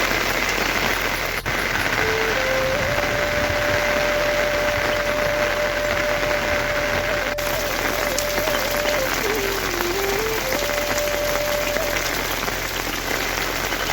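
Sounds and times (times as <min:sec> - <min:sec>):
heavy rain: 0:00.0 - 0:13.9.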